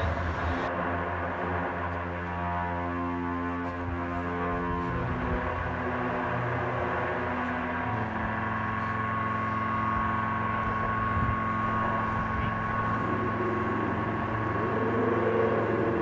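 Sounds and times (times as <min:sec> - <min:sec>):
dark ambient drone: 0:00.0 - 0:16.0.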